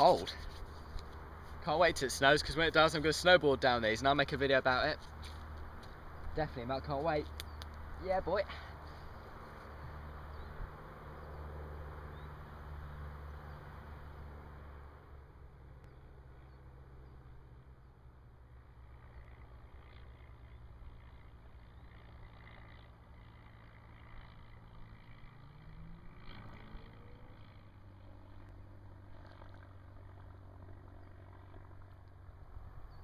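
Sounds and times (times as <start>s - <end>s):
light aircraft engine drone: 0.0s - 33.0s.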